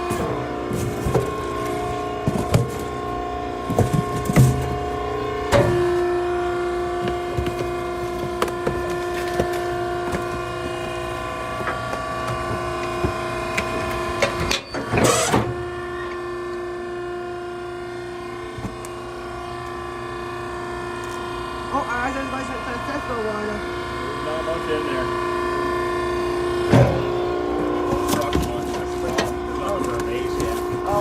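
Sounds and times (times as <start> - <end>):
hydraulic motor hum and whine: 0.0 - 31.0.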